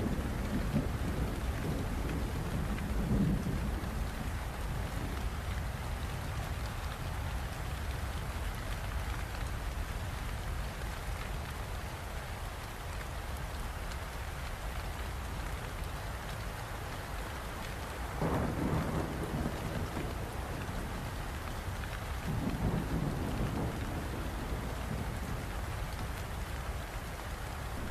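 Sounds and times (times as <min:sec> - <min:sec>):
steady rainfall: 0:00.0 - 0:27.9.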